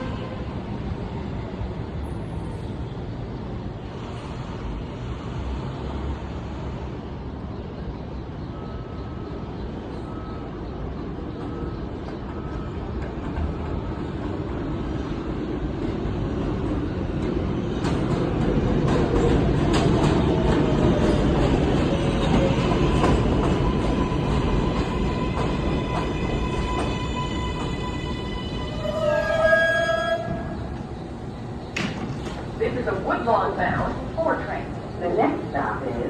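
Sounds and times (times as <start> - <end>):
subway station rumble and hiss: 0.0 - 36.0
train arriving: 0.0 - 36.0.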